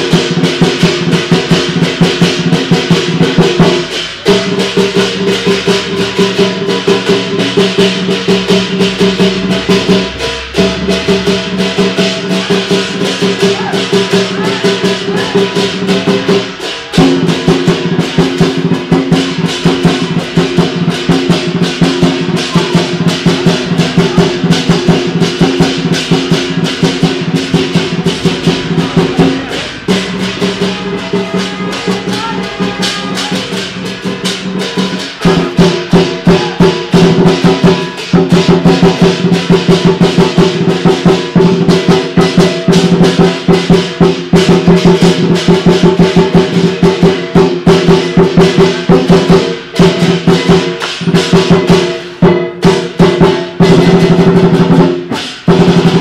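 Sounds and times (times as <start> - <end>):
drum beating fast rhythm: 0.0 - 56.0
hand cymbals ringing: 0.0 - 56.0.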